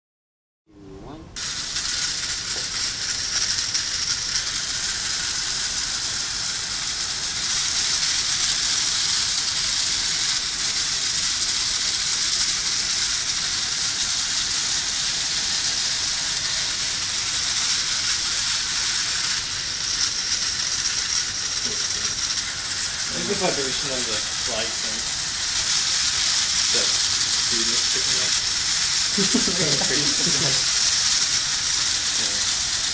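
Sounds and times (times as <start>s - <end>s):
robot motors whirring on tile: 1.4s - 32.9s.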